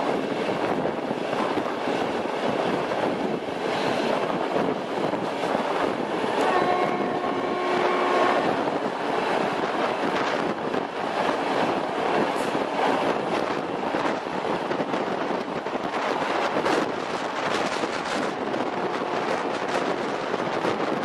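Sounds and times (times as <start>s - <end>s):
train wheels rolling on rails: 0.0s - 21.0s
wind rushing: 0.0s - 21.0s.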